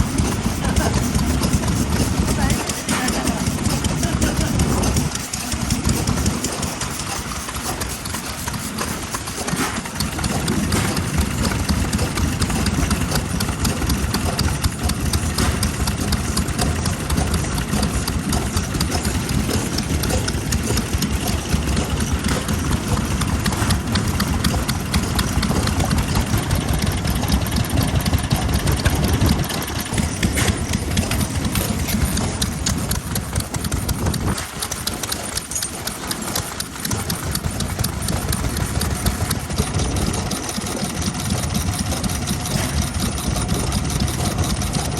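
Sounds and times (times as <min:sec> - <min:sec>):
stationary engine running: 0:00.0 - 0:44.9.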